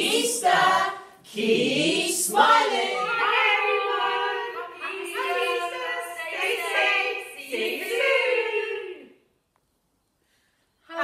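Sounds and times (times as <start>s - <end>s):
voices singing unaccompanied: 0.0s - 9.2s.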